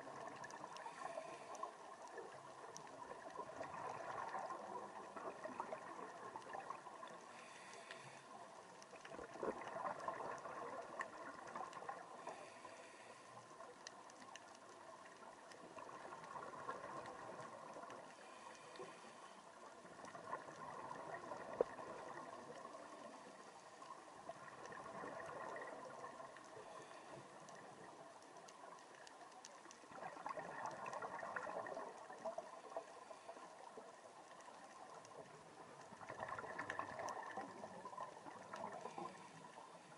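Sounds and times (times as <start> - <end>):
underwater exhaled bubbles: 0.0 - 39.9.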